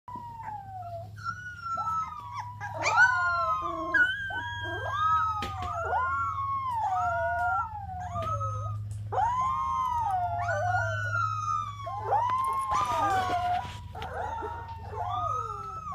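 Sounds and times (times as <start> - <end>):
puppy howling: 0.1 - 15.9
steady low hum: 0.1 - 15.9.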